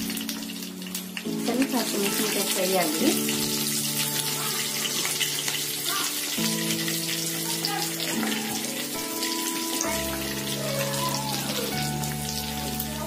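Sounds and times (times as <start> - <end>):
background music with held chords: 0.0 - 13.0
chillies sizzling in hot oil: 0.0 - 13.0.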